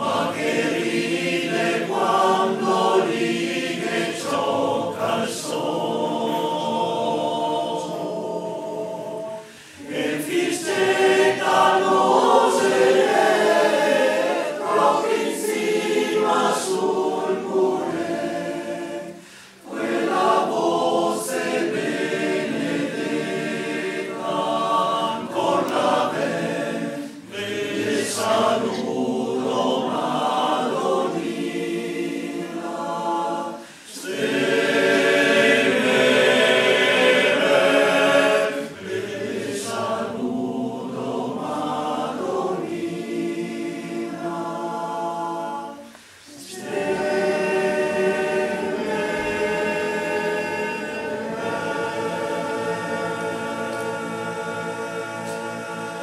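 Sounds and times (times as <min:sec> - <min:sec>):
male choir singing a cappella: 0:00.0 - 0:56.0.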